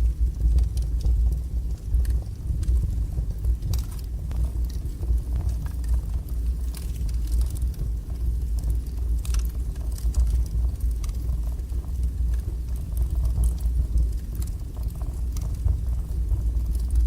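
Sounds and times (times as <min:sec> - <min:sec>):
burning logs crackling and popping: 0:00.0 - 0:17.0
fire rumbling: 0:00.0 - 0:17.0.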